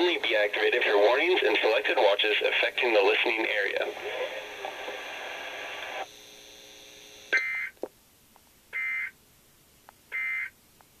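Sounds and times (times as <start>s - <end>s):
broadcast hum: 0.0s - 11.0s.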